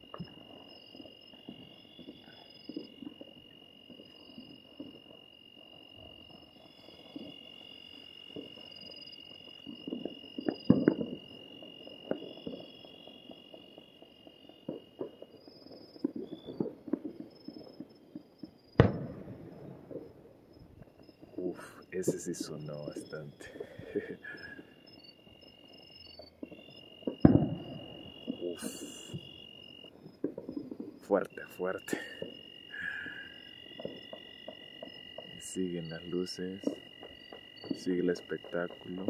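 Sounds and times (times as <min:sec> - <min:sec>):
distant firecrackers popping: 0:00.0 - 0:39.0
high insect trill: 0:00.0 - 0:39.0.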